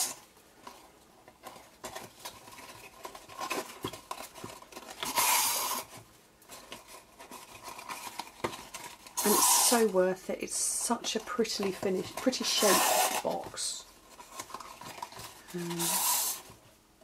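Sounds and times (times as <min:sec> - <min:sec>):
card rustling and tapping: 0:00.6 - 0:09.9, 0:10.9 - 0:16.7.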